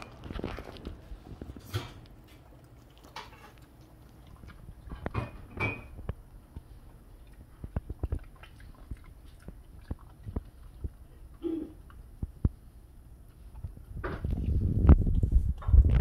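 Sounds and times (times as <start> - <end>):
dog crunching bones: 0.0 - 16.0.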